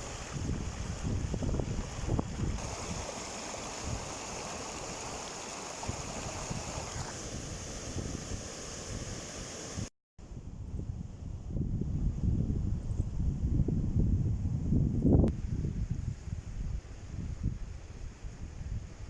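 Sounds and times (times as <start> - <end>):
gusty wind buffeting microphone: 0.0 - 19.0.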